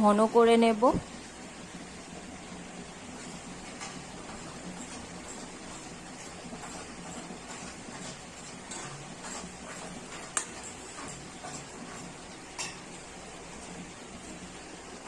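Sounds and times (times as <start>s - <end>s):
milk boiling hiss: 0.0s - 15.0s.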